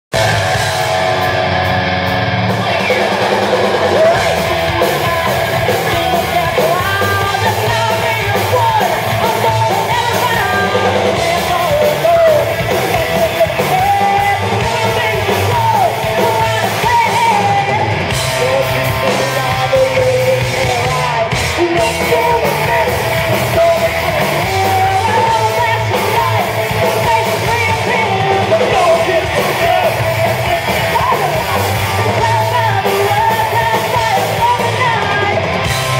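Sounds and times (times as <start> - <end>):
heavy metal band playing live: 0.1 - 35.9
singer belting and wailing: 0.2 - 35.9.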